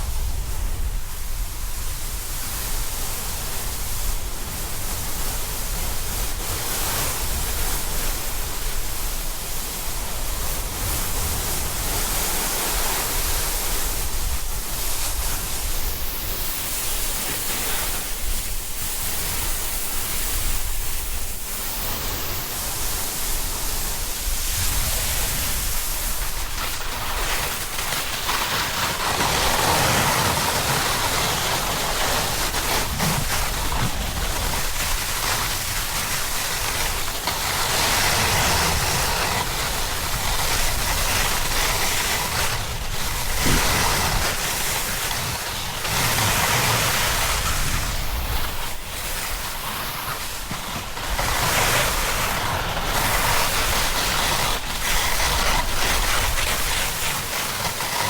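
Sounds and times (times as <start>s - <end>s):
snowboard scraping over snow: 0.0s - 58.0s
wind on microphone: 0.0s - 58.0s.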